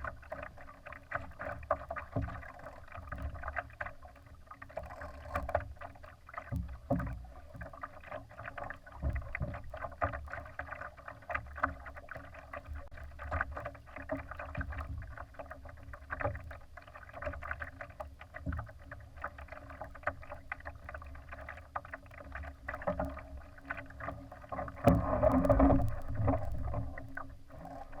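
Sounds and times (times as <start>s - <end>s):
water splashing against boat hull: 0.0s - 28.0s.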